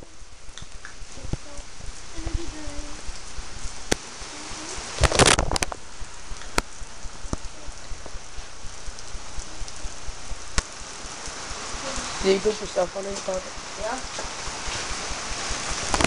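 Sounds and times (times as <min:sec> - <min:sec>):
rain pattering on hard surfaces: 0:00.0 - 0:16.0.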